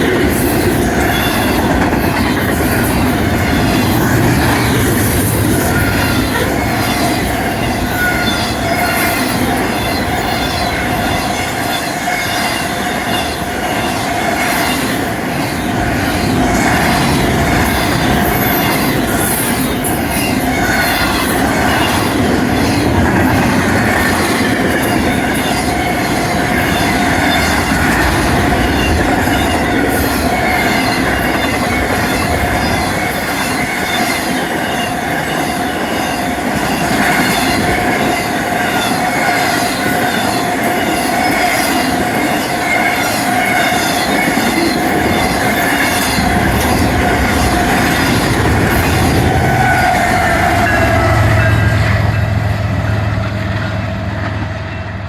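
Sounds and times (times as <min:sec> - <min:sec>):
steel wheels rumbling on rail: 0:00.0 - 0:55.0
high wheel squeal: 0:00.4 - 0:53.0.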